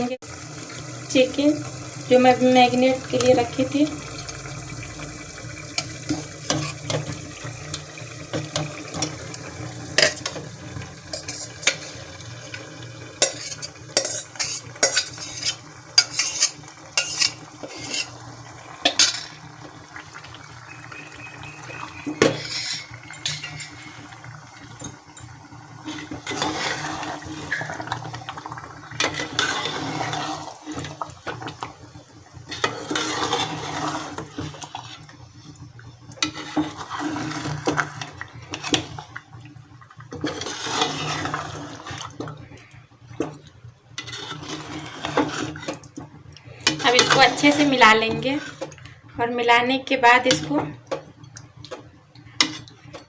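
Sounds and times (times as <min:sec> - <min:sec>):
sizzling: 0:00.0 - 0:53.0
scraping and stirring: 0:05.1 - 0:19.4, 0:20.2 - 0:31.8, 0:32.4 - 0:49.0, 0:50.2 - 0:53.0.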